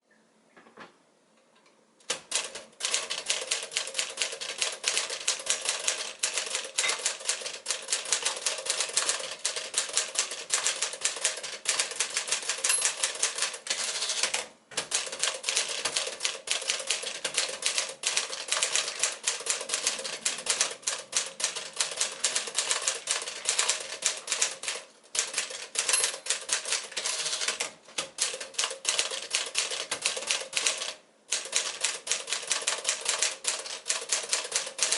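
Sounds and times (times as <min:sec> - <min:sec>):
typewriter keys clacking: 0:02.1 - 0:34.9.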